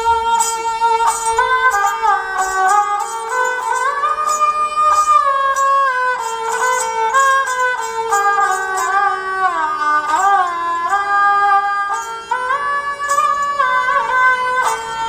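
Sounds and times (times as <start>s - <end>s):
plucked percussive strokes: 0.0s - 15.0s.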